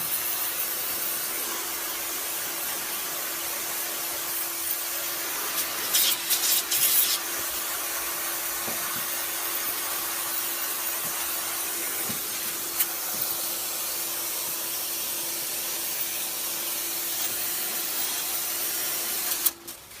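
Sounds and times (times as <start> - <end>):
water spray hissing: 0.0 - 19.6.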